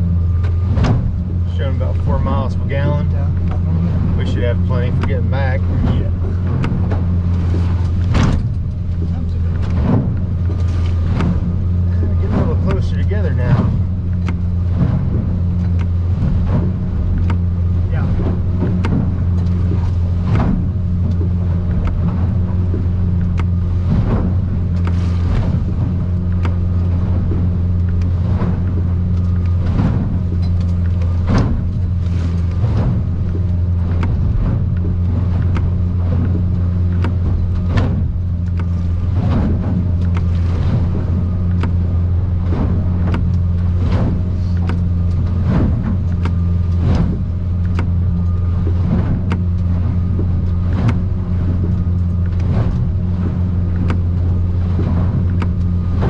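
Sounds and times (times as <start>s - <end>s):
boat engine drone: 0.0s - 56.0s
hull slapping waves: 0.0s - 56.0s.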